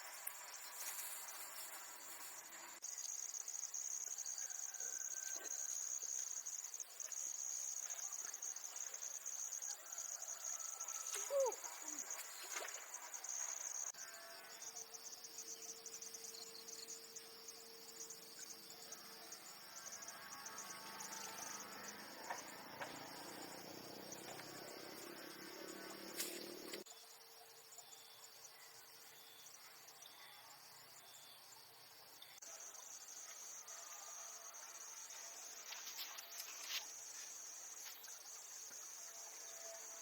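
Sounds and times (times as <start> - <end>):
insects trilling and chirping: 0.0 - 40.0.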